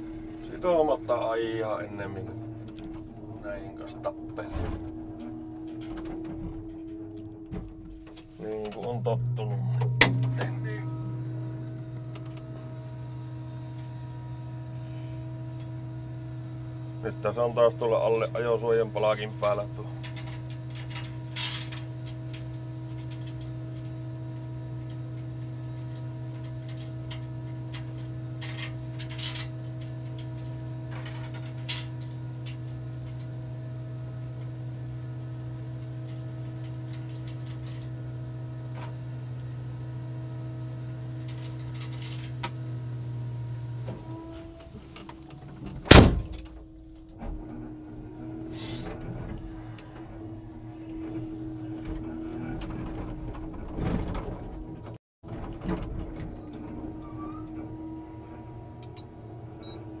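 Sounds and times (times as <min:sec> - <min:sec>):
truck machine hum: 0:00.0 - 1:00.0.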